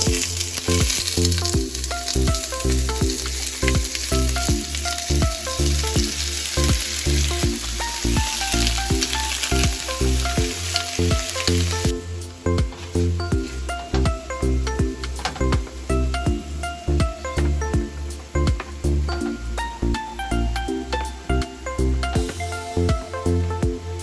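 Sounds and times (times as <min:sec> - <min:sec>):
meat sizzling in hot oil: 0:00.0 - 0:23.4
background music with steady beat: 0:00.0 - 0:24.0.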